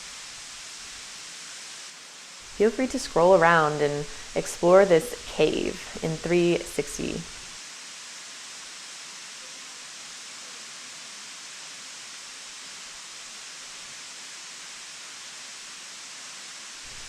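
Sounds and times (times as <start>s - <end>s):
waterfall rushing: 2.4s - 7.5s, 8.3s - 17.0s.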